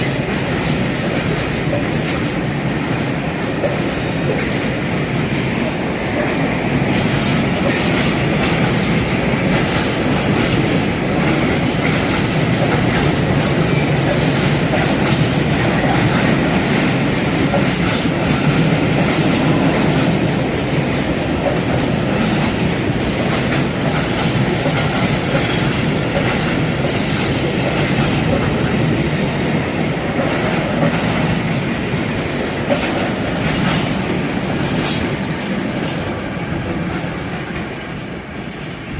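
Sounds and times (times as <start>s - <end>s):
wheels clacking over rail joints: 0.0s - 38.9s.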